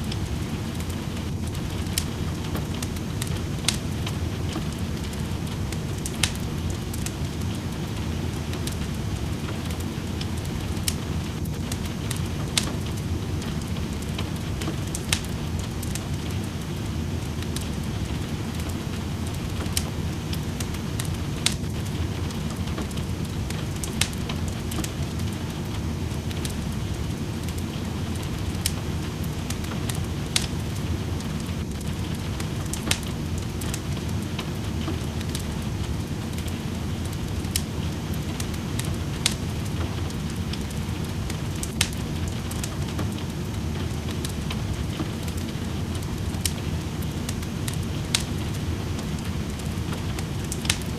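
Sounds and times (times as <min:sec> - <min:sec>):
steady rain: 0:00.0 - 0:50.9
wood fire crackling and popping: 0:00.0 - 0:50.9.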